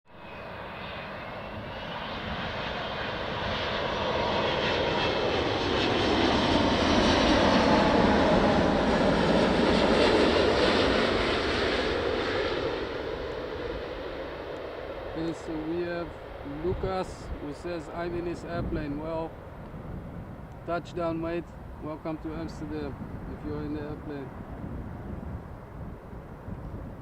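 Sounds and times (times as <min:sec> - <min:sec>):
jet engines passing overhead: 0:00.1 - 0:27.0.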